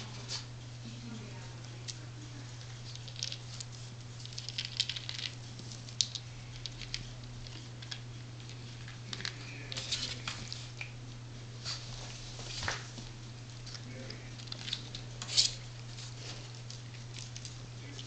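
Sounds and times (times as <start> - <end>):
puppy paws scratching on pad: 0.0 - 10.9, 11.6 - 18.0
steady low hum: 0.0 - 18.0.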